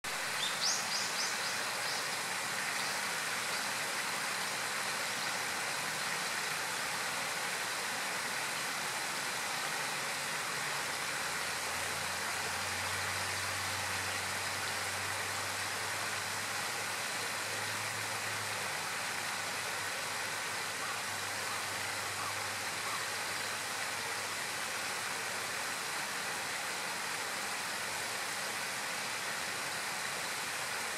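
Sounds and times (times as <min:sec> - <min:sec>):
stream water rushing: 0:00.0 - 0:30.9.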